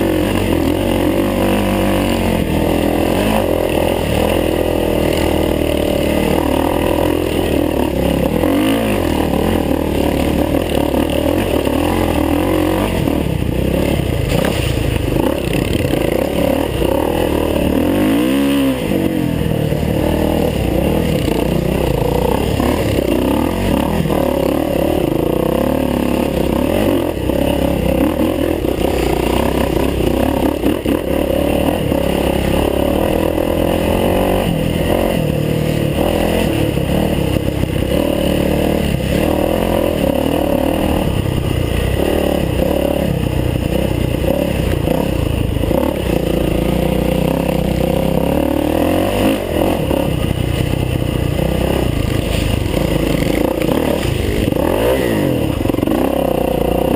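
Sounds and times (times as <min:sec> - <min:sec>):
bike rattling over rough ground: 0:00.0 - 0:56.9
dirt bike engine revving: 0:00.0 - 0:56.9.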